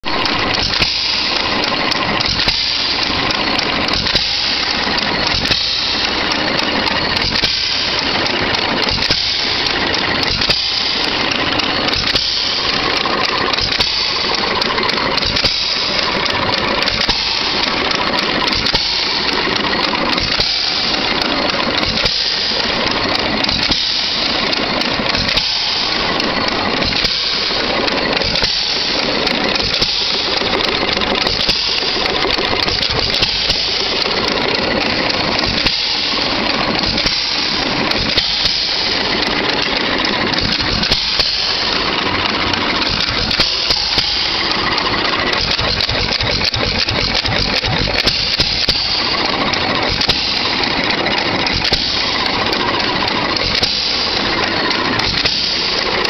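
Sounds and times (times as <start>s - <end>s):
single-cylinder engine firing: 0.0s - 56.0s.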